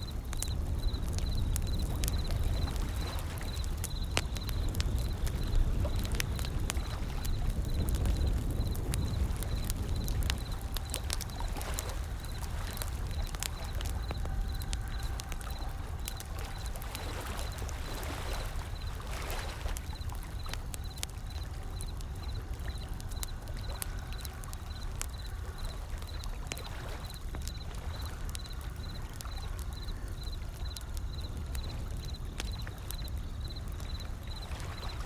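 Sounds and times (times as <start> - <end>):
wood fire crackling and popping: 0.0 - 35.0
ocean waves: 0.1 - 29.9.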